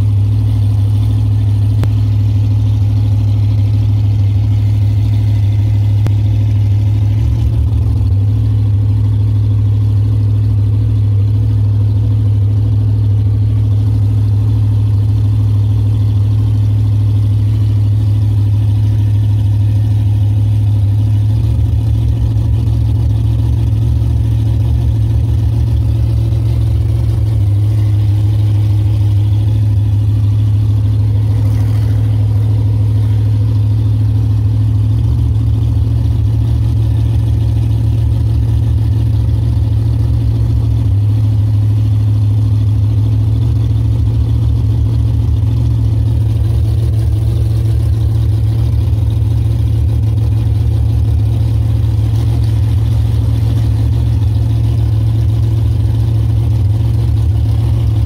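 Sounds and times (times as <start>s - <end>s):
engine droning at low revs: 0.0s - 58.0s.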